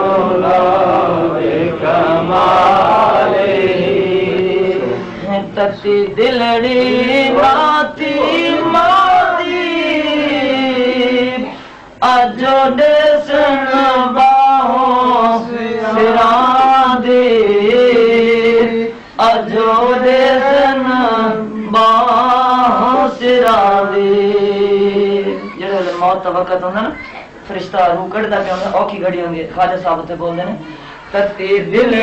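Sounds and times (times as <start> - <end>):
man chanting: 0.0 - 26.8.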